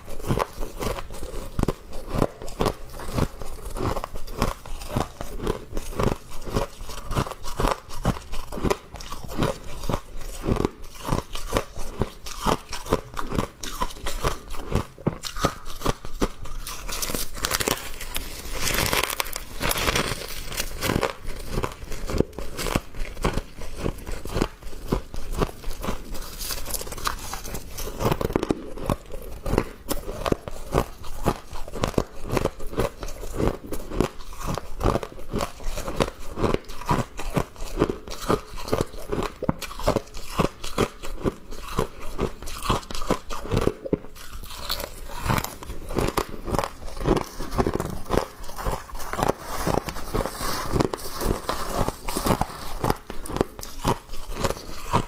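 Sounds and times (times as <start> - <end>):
person crunching ice: 0.0 - 55.0.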